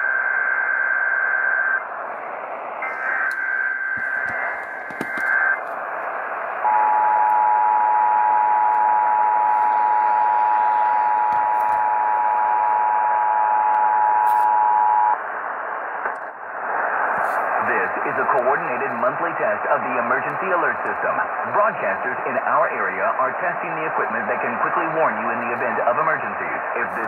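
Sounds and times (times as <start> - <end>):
broadcast hiss: 1.8 - 27.0.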